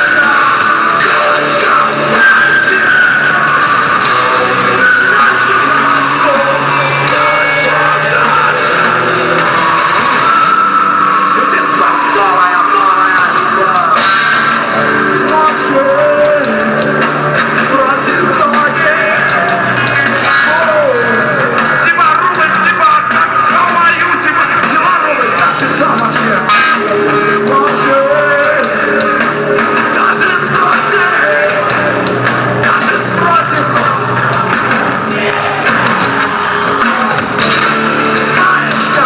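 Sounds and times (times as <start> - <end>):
loud rock music with guitar: 0.0 - 39.0
person singing: 0.0 - 39.0.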